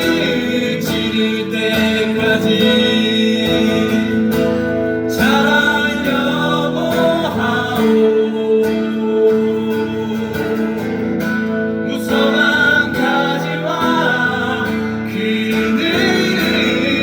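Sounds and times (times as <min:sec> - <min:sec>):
acoustic guitar: 0:00.0 - 0:17.0
person singing slow ballad: 0:00.0 - 0:17.0.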